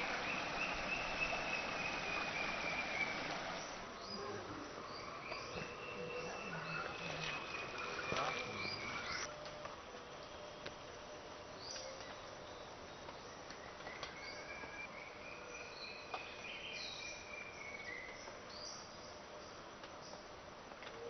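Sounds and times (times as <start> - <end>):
insect hiss: 0.0 - 21.0.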